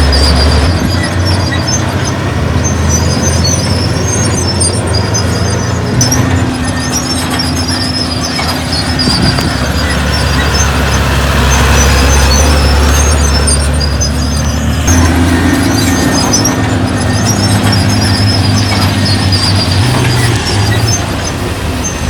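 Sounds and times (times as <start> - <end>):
construction machinery diesel engine: 0.0 - 22.0
high squeaks: 0.0 - 22.0.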